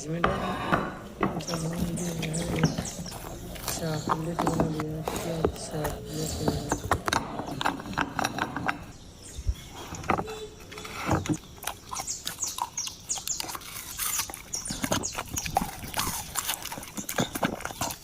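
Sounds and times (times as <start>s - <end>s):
dog chewing biscuits: 1.1s - 9.0s, 11.2s - 18.0s.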